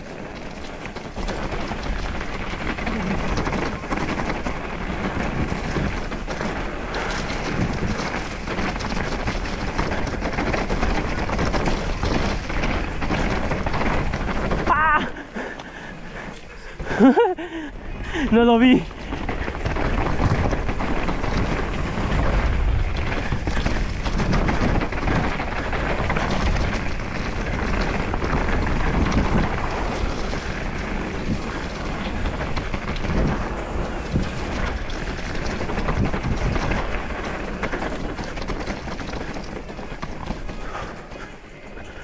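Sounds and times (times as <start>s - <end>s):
bike tyres and frame rattling: 0.0s - 42.0s
wind noise on microphone: 0.0s - 42.0s.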